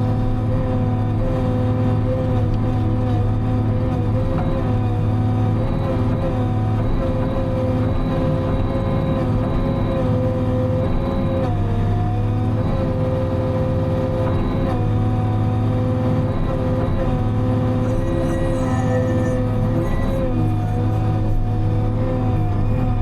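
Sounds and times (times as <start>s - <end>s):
diesel engine running from cab: 0.0s - 23.0s.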